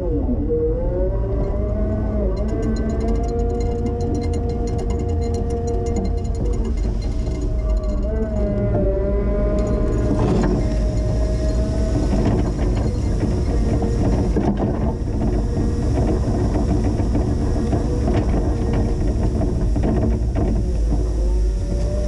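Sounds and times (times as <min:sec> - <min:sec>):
forklift running: 0:01.1 - 0:22.0
scattered knocks: 0:02.3 - 0:08.8, 0:09.4 - 0:22.0.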